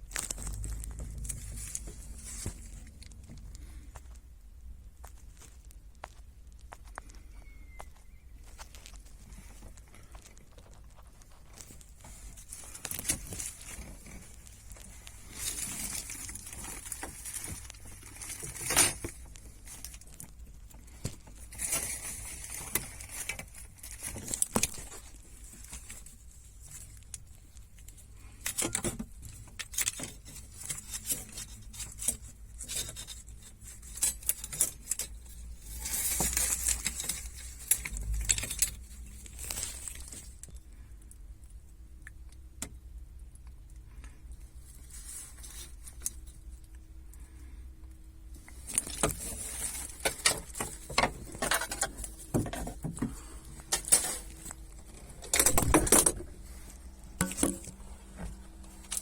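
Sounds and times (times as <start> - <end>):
rustling: 0.0 - 42.0, 43.4 - 59.0.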